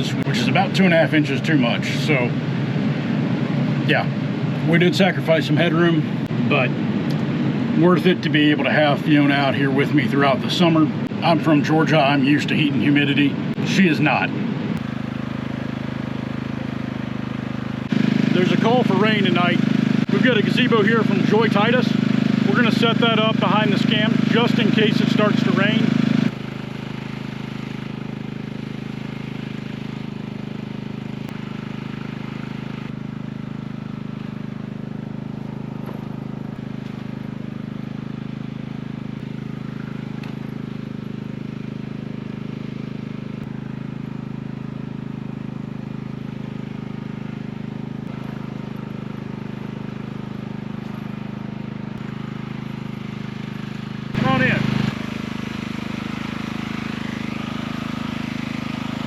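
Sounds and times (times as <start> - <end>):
generator engine humming: 0.0 - 59.0.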